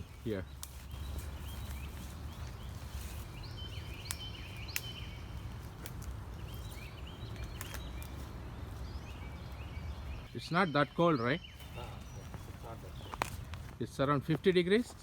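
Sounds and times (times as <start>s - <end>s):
footsteps on wet trail: 0.0s - 9.0s, 11.5s - 15.0s
small birds chirping: 0.0s - 15.0s.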